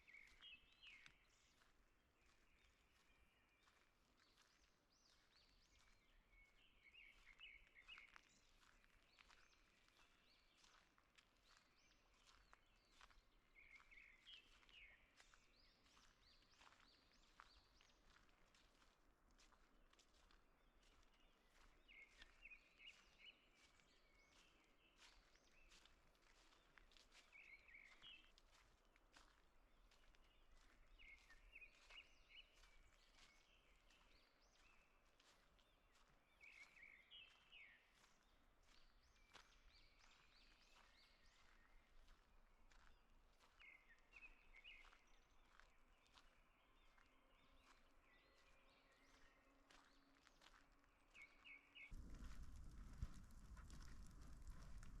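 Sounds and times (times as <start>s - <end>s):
footsteps on forest path: 0.0s - 55.0s
songbird chirping: 0.0s - 55.0s.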